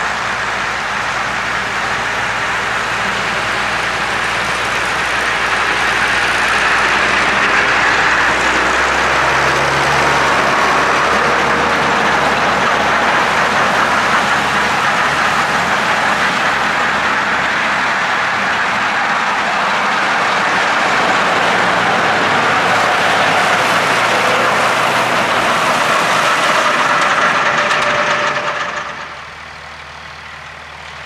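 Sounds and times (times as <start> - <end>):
mower drums whirring: 0.0 - 30.9
tractor diesel engine running: 0.0 - 31.0.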